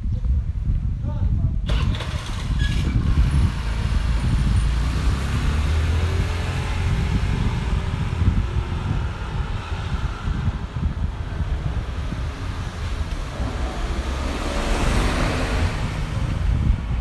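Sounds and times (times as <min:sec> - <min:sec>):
vehicle passing by: 0:01.7 - 0:17.0.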